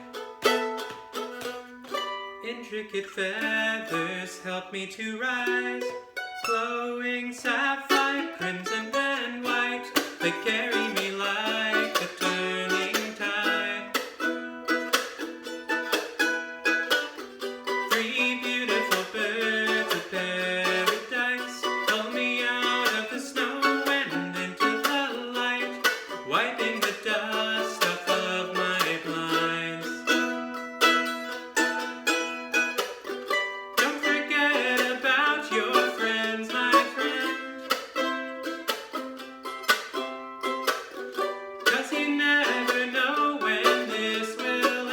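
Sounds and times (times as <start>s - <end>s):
plucked string instrument: 0.0s - 44.9s.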